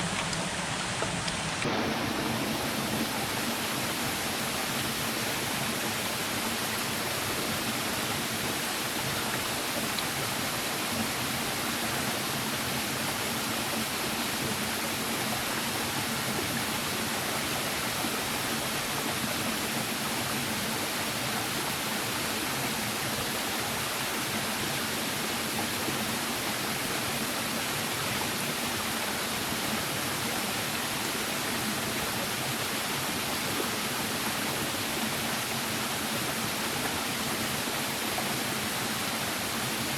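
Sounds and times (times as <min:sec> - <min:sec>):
rushing water hiss: 0:00.0 - 0:39.9.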